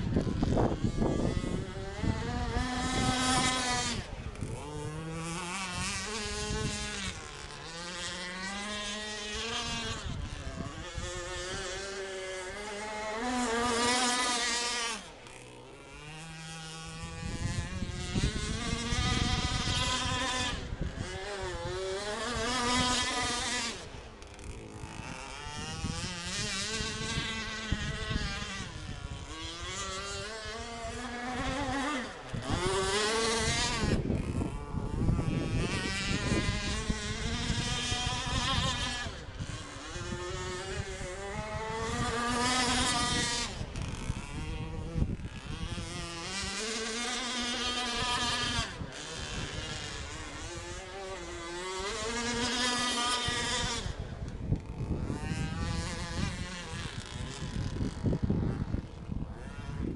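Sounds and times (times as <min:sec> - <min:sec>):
model boat engine whining: 0:00.0 - 0:59.9.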